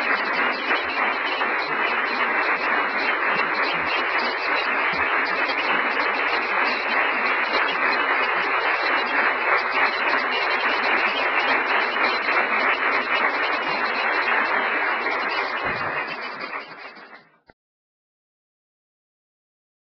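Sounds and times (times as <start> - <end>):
audience applauding: 0.0 - 17.3.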